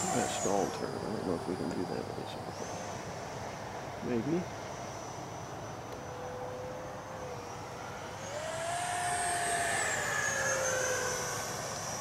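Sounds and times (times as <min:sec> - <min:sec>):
model jet ducted fan whining: 0:00.0 - 0:12.0.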